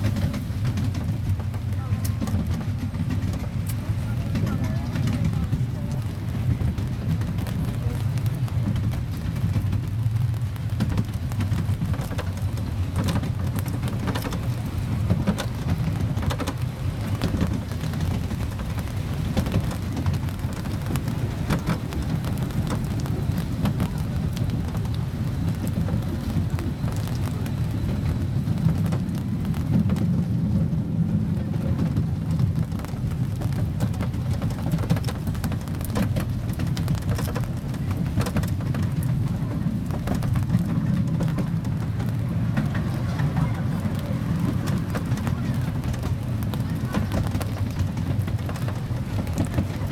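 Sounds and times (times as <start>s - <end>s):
faint clicks and knocks: 0.0s - 30.2s, 31.6s - 49.9s
park train rumbling: 0.0s - 49.9s.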